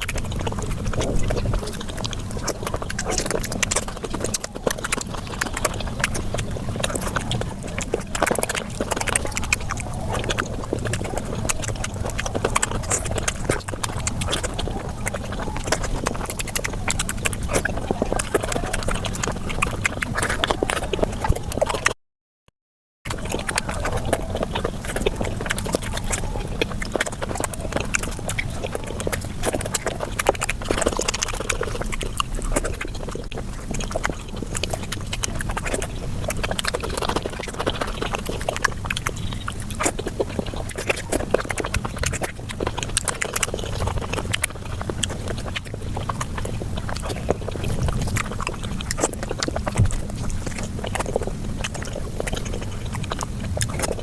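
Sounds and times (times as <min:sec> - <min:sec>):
sped-up chewing and smacking: 0:00.0 - 0:22.0, 0:23.1 - 0:54.0.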